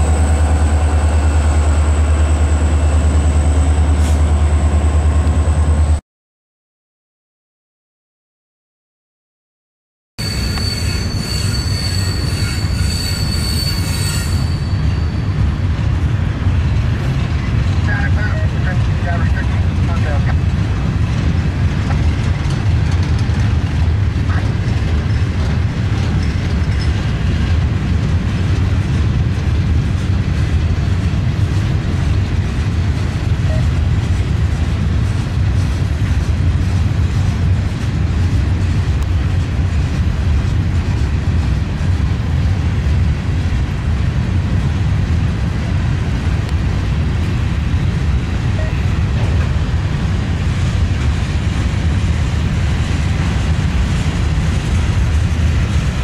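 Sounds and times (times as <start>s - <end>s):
freight train wheels rumbling on rails: 0.0s - 6.0s, 10.2s - 56.0s.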